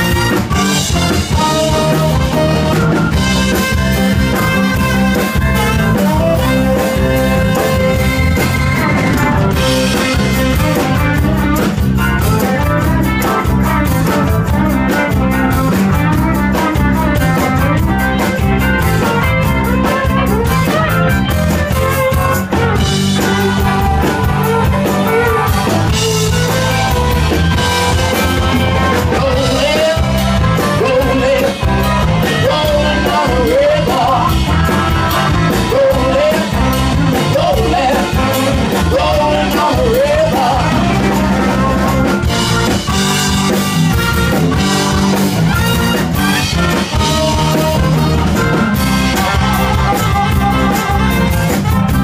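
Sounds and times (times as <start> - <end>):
bass: 0.0 - 52.0
drums: 0.0 - 52.0
lead guitar bending notes: 0.0 - 52.0.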